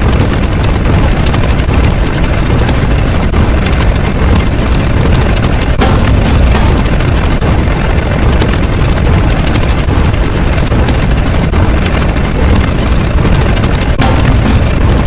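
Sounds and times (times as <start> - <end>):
dense crackling: 0.0 - 15.0
rumbling roar: 0.0 - 15.0.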